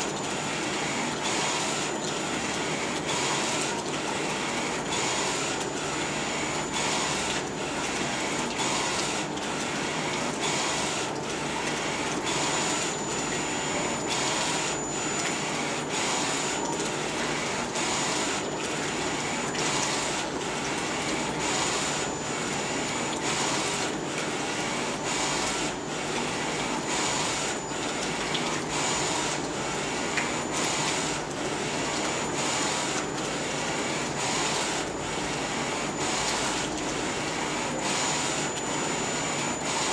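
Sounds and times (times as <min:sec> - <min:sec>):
printer carriage whirring: 0:00.0 - 0:39.9
steady mechanical hum: 0:00.0 - 0:39.9.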